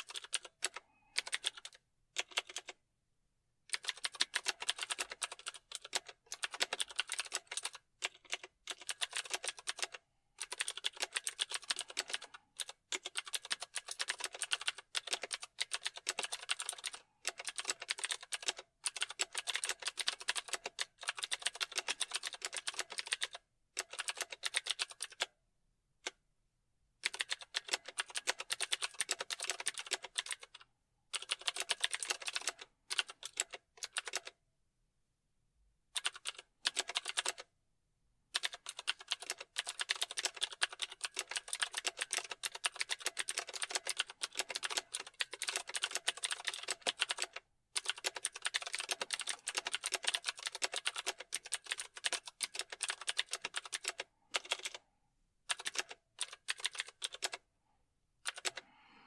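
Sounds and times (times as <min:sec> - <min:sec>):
computer keyboard typing: 0:00.0 - 0:02.8, 0:03.7 - 0:25.3, 0:27.0 - 0:34.4, 0:36.0 - 0:37.5, 0:38.3 - 0:54.8, 0:55.5 - 0:57.4, 0:58.2 - 0:58.6.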